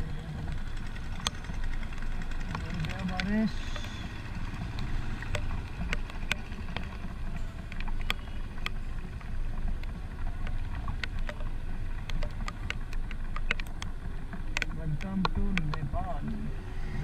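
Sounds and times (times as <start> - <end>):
motorcycle engine rumble: 0.0 - 17.0
sharp ticks: 0.3 - 16.6.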